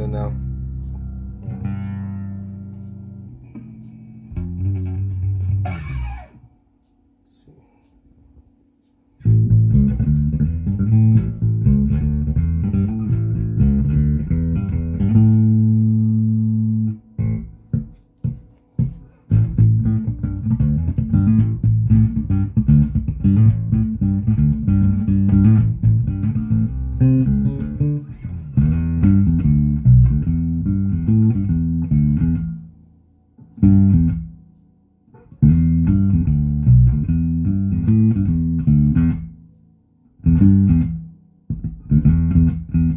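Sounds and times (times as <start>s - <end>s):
bass guitar plucked: 0.0s - 6.8s, 9.2s - 42.9s.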